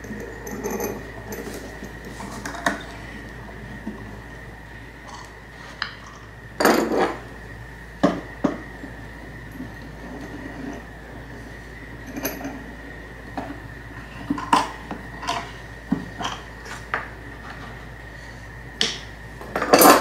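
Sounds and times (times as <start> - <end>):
faint steady high whine: 0.0 - 20.0.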